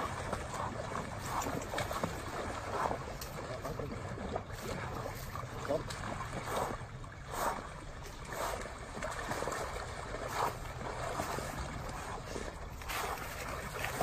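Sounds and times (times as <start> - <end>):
water splashing: 0.0 - 14.0.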